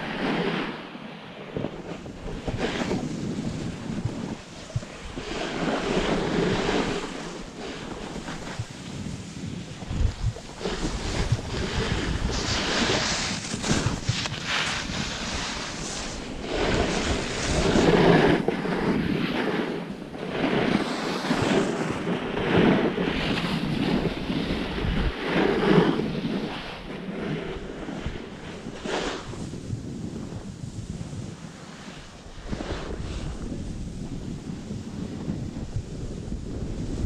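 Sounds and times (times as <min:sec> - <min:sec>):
snowboard scraping over snow: 0:00.0 - 0:37.0
wind buffeting microphone: 0:00.0 - 0:37.0.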